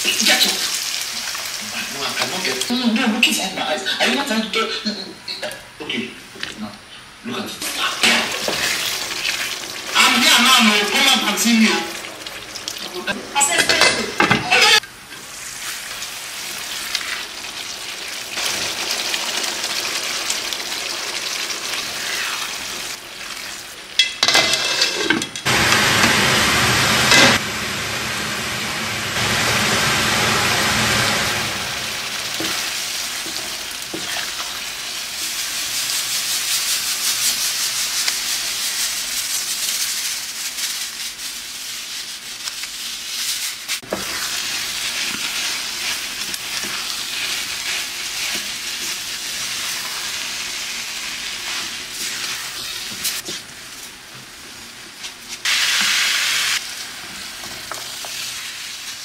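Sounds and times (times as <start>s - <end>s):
food sizzling in hot oil: 0.0s - 4.1s, 7.6s - 59.0s
stirring in a pan: 7.6s - 25.3s, 29.2s - 59.0s.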